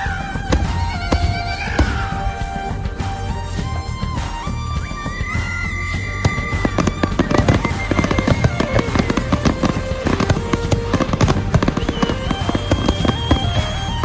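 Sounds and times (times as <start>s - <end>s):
music with long held notes: 0.0s - 14.0s
fireworks crackling and banging: 0.2s - 3.6s, 5.0s - 14.0s.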